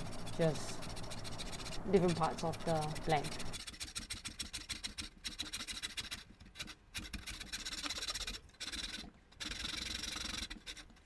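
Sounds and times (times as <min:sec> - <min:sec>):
saw cutting wood: 0:00.0 - 0:11.0.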